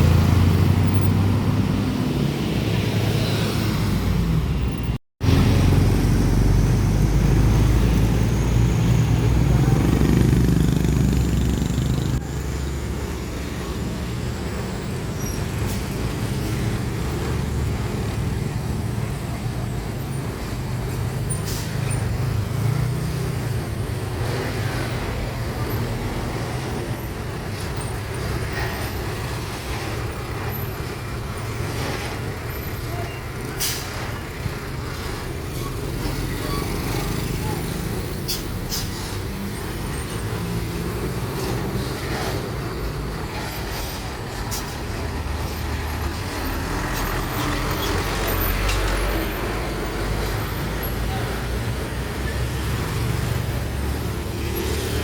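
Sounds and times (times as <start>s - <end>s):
diesel truck engines passing: 0.0s - 55.0s
road traffic rumble: 0.0s - 55.0s.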